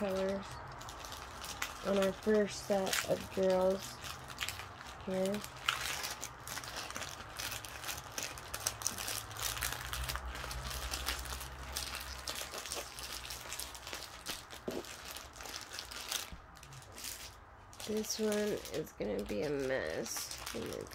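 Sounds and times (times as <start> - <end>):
plastic bags crinkling: 0.0 - 20.9.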